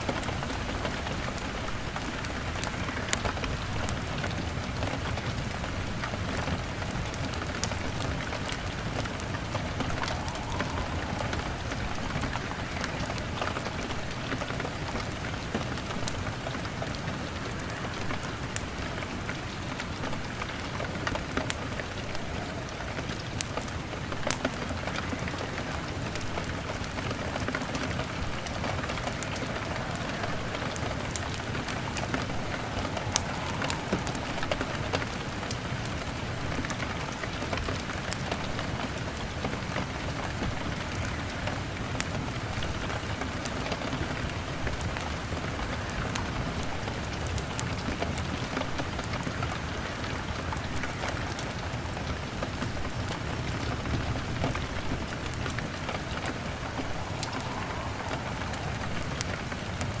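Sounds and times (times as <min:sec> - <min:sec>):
log fire crackling: 0:00.0 - 1:00.0
rain beating on window: 0:00.0 - 1:00.0.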